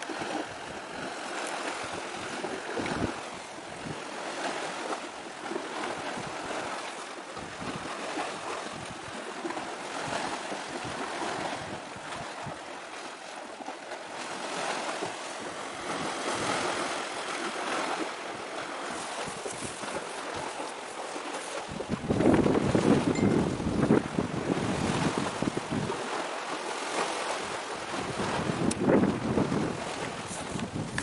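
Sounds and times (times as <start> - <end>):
wind gusts buffeting microphone: 0.0 - 13.0, 14.2 - 26.3, 27.2 - 31.0
sea waves: 0.0 - 31.0.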